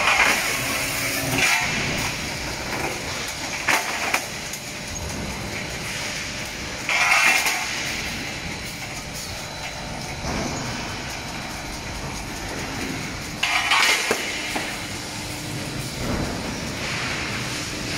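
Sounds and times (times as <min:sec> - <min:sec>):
machine clattering: 0:00.0 - 0:17.9.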